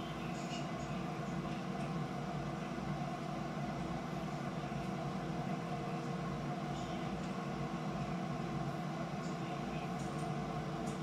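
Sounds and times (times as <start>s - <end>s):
steady hum with hiss: 0.0s - 11.0s.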